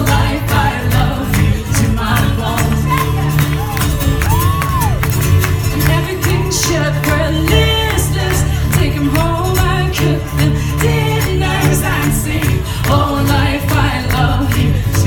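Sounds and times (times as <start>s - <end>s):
bass line: 0.0s - 15.0s
rhythmic percussion: 0.0s - 15.0s
woman singing lead: 0.0s - 15.0s.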